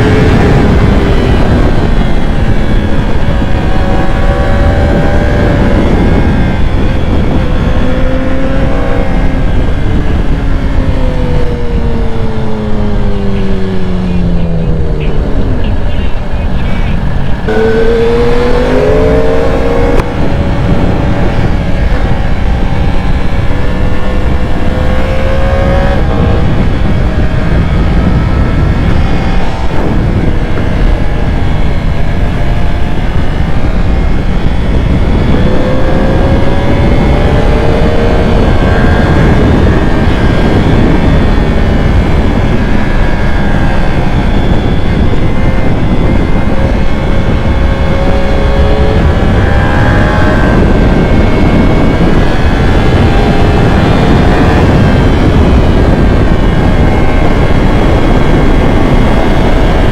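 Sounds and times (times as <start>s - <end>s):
motorcycle engine accelerating: 0.0s - 59.9s
wind rush on microphone: 0.0s - 59.9s.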